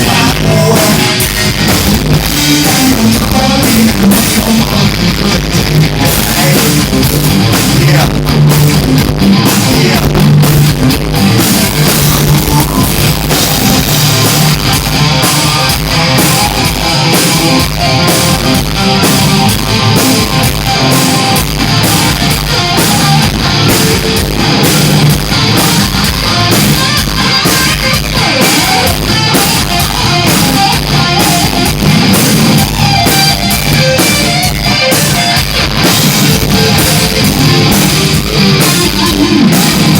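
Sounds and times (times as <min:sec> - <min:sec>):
electric guitar: 0:00.0 - 0:39.9
pounding drum kit: 0:00.0 - 0:39.9
rock band playing: 0:00.0 - 0:39.9.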